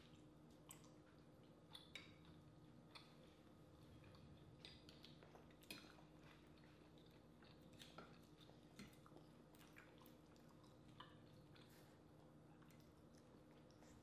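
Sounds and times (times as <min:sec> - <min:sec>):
chewing: 0:00.0 - 0:14.0
low steady hum: 0:00.0 - 0:14.0.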